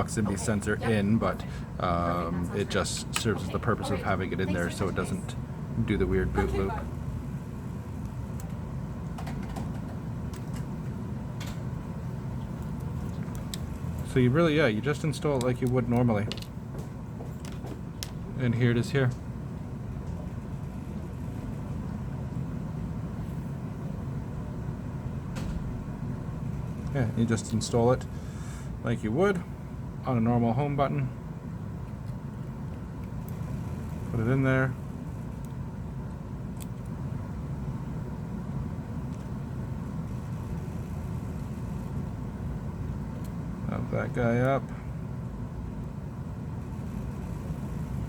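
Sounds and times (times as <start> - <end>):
low background rumble: 0.0 - 48.0.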